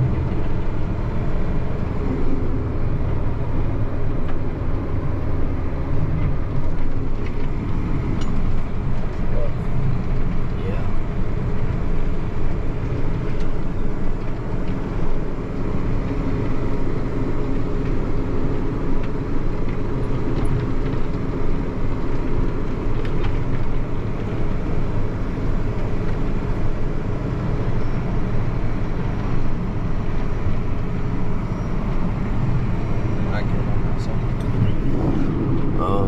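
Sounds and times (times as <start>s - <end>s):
combine harvester running: 0.0s - 36.0s.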